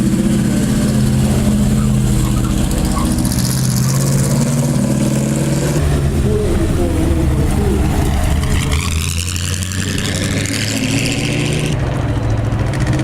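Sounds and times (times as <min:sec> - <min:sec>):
car accelerating in rising whine: 0:00.0 - 0:13.0
racecar engines running: 0:00.0 - 0:13.0.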